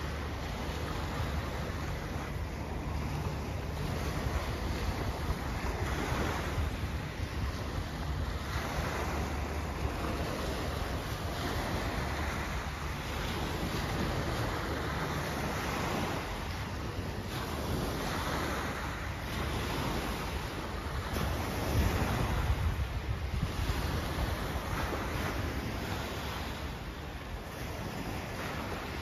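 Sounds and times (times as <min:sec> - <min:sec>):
wind rumbling on microphone: 0:00.0 - 0:29.0.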